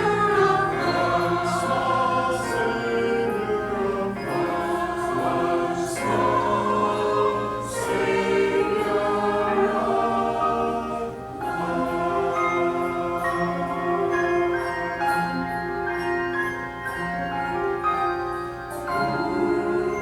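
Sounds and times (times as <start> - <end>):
choir singing: 0.0 - 15.8, 18.0 - 20.0.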